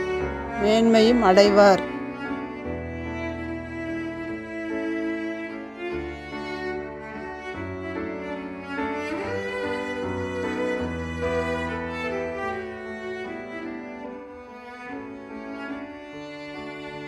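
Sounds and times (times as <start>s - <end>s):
slow bowed strings: 0.0s - 17.0s.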